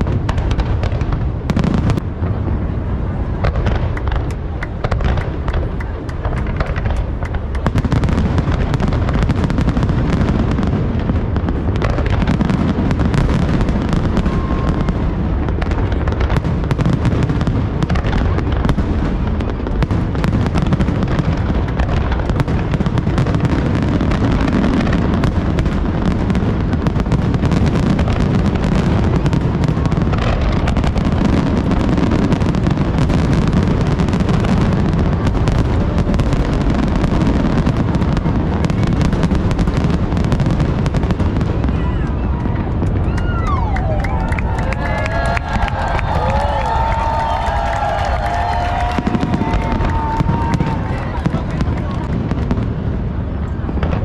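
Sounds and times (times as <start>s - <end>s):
fireworks bursts and crackles: 0.0s - 54.0s.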